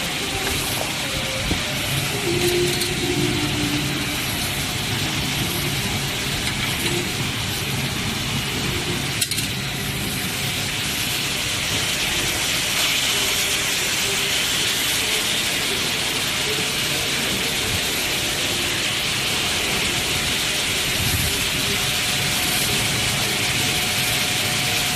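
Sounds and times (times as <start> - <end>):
machines clattering: 0.0 - 24.9.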